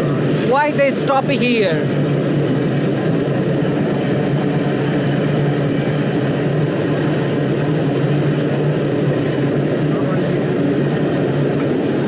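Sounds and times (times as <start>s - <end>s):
locomotive engine droning: 0.0s - 12.0s.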